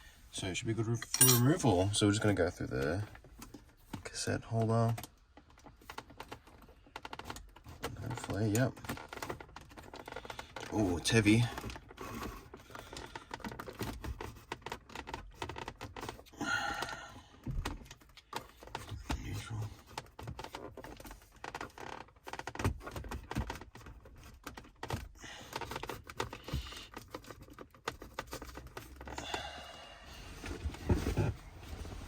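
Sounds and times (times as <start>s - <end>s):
plastic and metal clicks and knocks: 2.8s - 29.3s.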